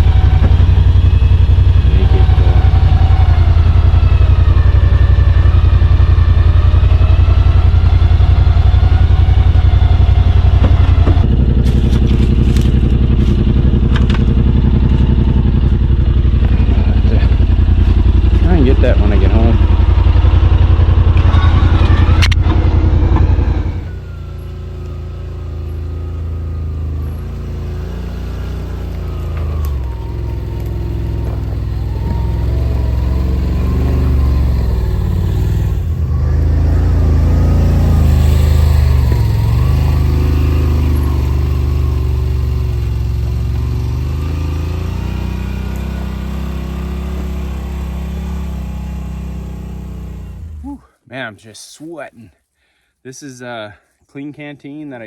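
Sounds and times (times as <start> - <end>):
side-by-side engine revving: 0.0 - 50.8.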